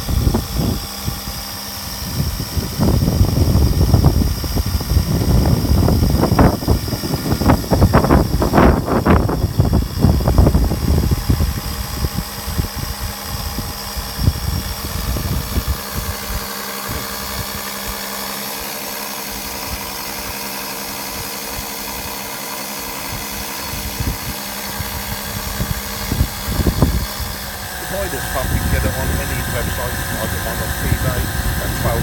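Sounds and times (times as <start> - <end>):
electric pump humming: 0.0 - 32.0.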